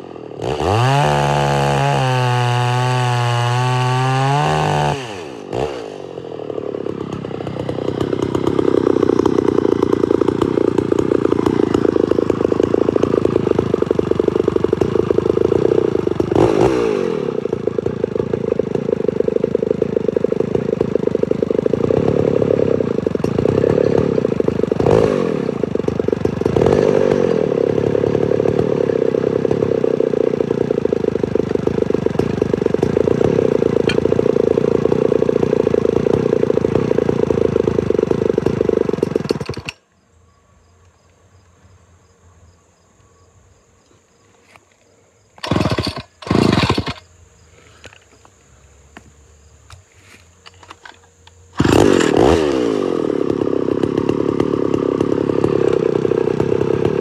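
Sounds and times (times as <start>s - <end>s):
chainsaw engine running: 0.0s - 39.8s, 45.4s - 57.0s.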